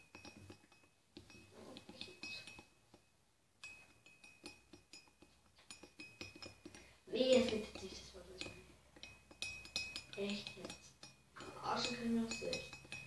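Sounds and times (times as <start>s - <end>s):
spoon clinking in ceramic mug: 0.0s - 13.0s.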